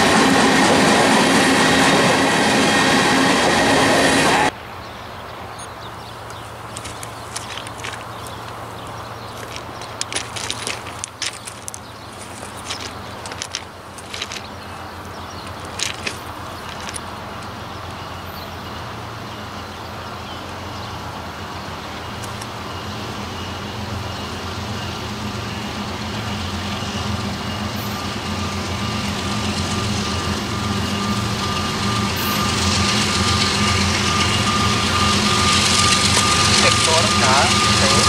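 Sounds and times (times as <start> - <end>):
diesel locomotive engines running: 0.0 - 38.0
thin steady whine: 6.5 - 38.0.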